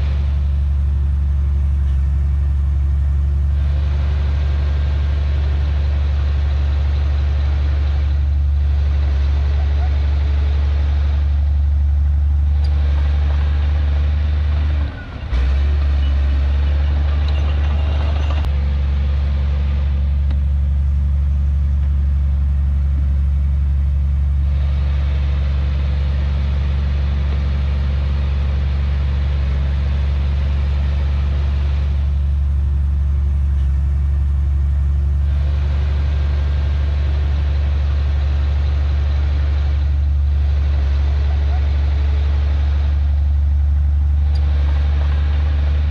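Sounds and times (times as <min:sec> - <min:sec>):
heavy diesel engine droning: 0:00.0 - 0:45.9.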